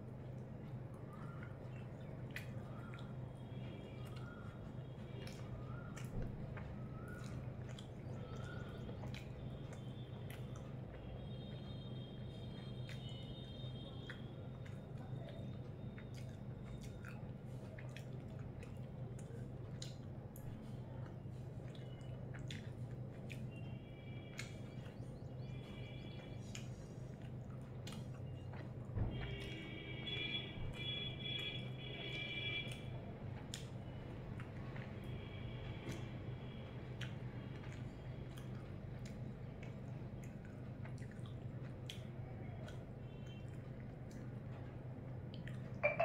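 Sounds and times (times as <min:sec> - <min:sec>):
food squishing mixed by hand: 0:00.0 - 0:45.7
chewing: 0:00.0 - 0:45.9.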